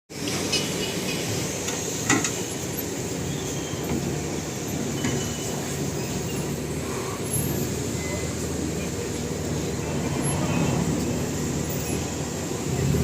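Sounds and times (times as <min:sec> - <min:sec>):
car engine running: 0:01.5 - 0:13.0.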